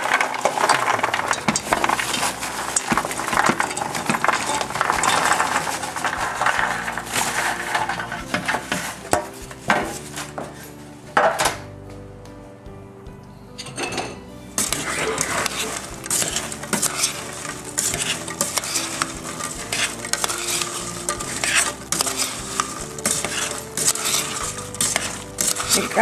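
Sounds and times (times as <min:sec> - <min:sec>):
dough balls clattering into metal pot: 0:00.0 - 0:10.4, 0:13.7 - 0:26.0.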